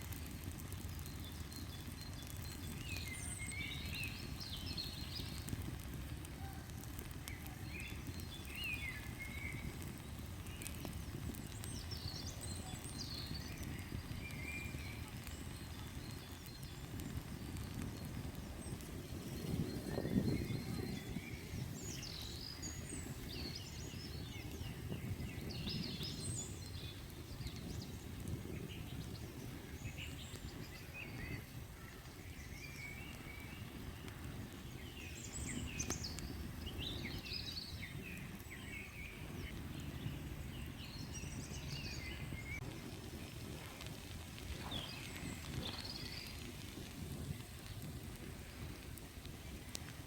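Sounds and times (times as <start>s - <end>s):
songbirds chirping: 0.2s - 50.0s.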